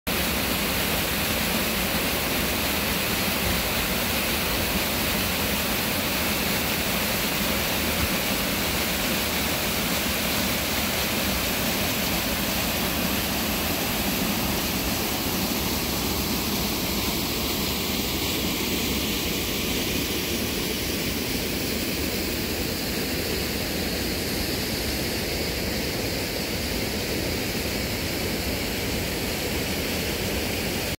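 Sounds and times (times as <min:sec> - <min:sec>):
waterfall rushing over rocks: 0:00.1 - 0:30.9.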